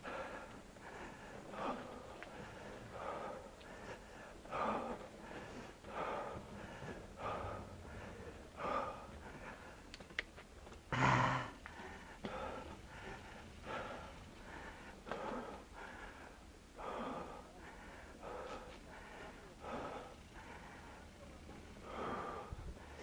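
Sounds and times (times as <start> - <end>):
person breathing hard: 0.0 - 10.2, 10.9 - 23.0.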